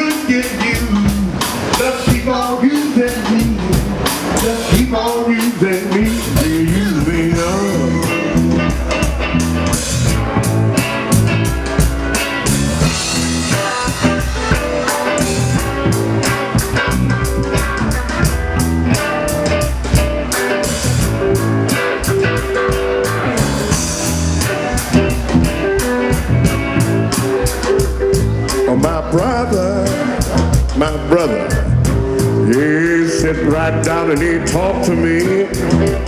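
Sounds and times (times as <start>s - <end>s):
guitar: 0.0s - 36.0s
live band playing: 0.0s - 36.0s.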